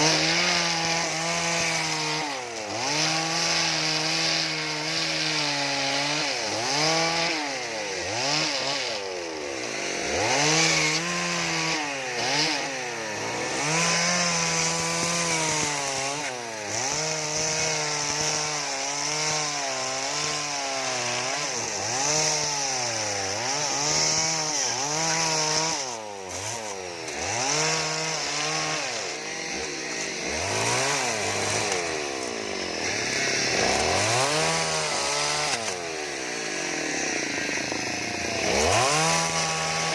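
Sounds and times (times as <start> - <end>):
chainsaw revving while cutting wood: 0.0 - 39.9.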